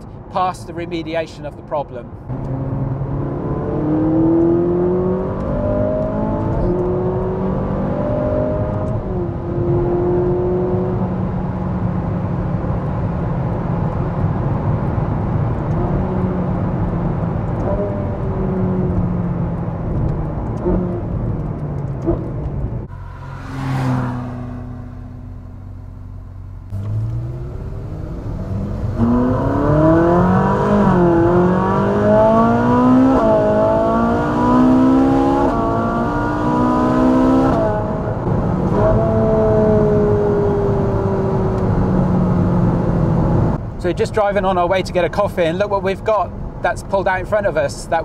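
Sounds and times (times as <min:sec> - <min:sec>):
car engine heard from cabin: 0:02.3 - 0:48.0.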